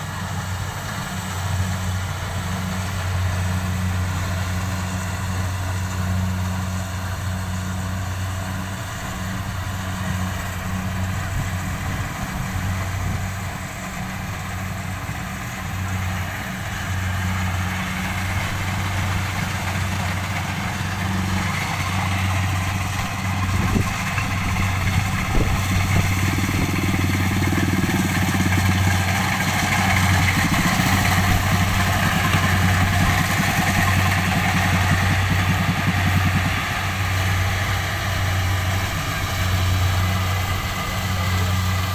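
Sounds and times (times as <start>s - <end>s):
combine harvester engine hum: 0.0s - 41.9s.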